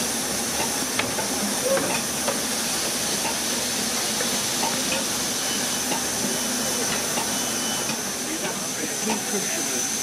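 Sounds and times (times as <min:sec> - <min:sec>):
steam hissing from locomotive: 0:00.0 - 0:10.0.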